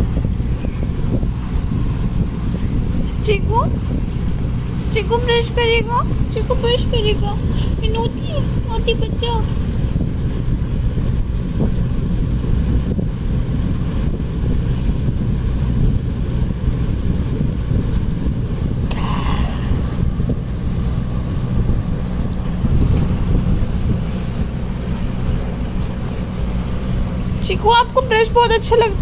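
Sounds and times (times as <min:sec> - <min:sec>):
air cooler fan humming: 0:00.0 - 0:29.0.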